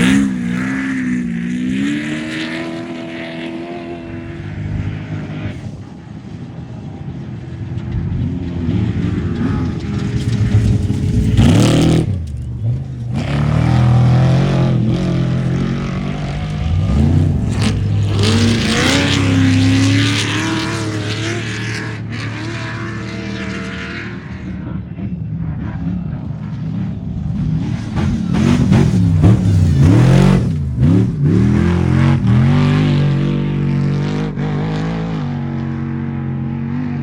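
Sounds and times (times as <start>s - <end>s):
race vehicle engines revving: 0.0s - 37.0s.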